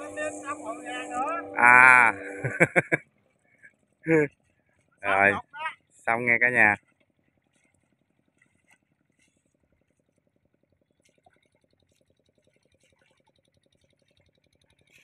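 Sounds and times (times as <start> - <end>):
distant engine pulsing: 0.0 - 15.0.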